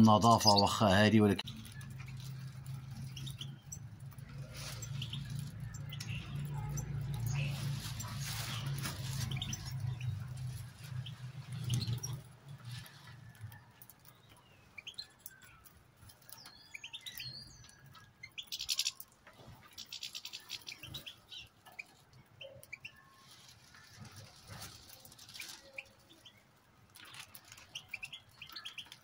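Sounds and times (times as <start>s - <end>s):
finches chirping and calling: 0.0s - 13.1s, 14.0s - 23.9s, 27.0s - 29.0s
rapid twittering trills: 0.0s - 29.0s.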